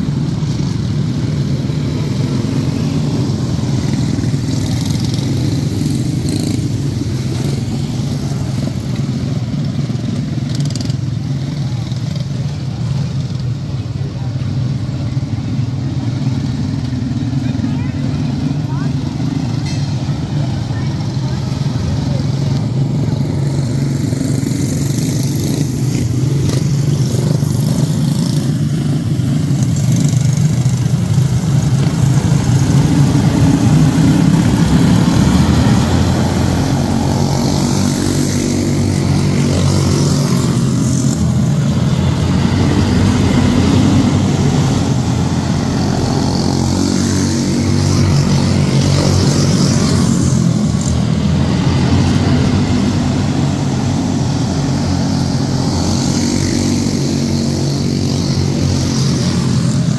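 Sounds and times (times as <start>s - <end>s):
race car engines buzzing drone: 0.0s - 59.9s.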